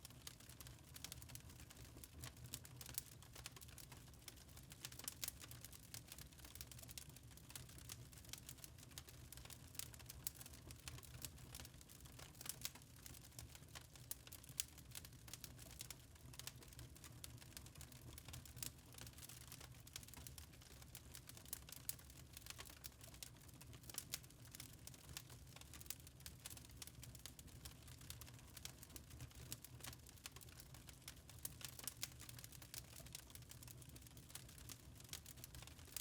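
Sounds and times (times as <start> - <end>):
faint wood fire crackling: 0.0 - 36.0.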